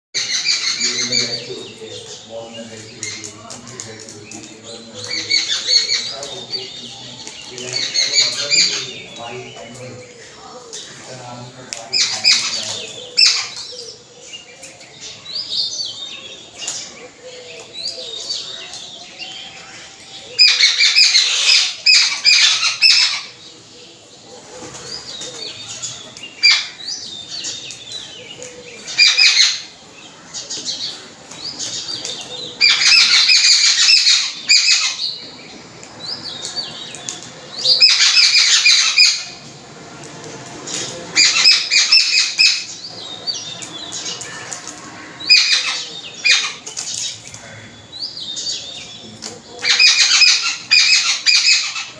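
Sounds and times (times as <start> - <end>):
birds screaming harsh chattering: 0.2 - 51.9
quieter bird calls: 0.2 - 51.9.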